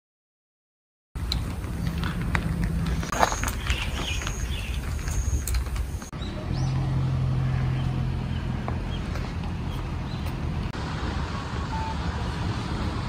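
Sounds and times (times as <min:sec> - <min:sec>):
low street rumble: 0:01.2 - 0:13.0
low vehicle hum: 0:01.2 - 0:13.0.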